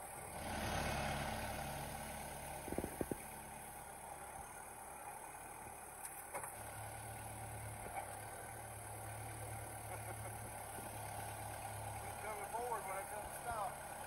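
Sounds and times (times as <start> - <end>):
tractor diesel engine running: 0.0 - 14.0
loader bucket pushing dirt: 0.2 - 4.4, 6.0 - 14.0.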